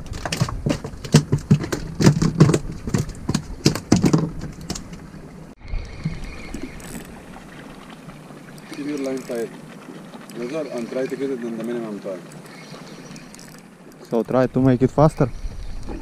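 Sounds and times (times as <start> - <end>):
fish thrashing and slapping: 0.0 - 14.0.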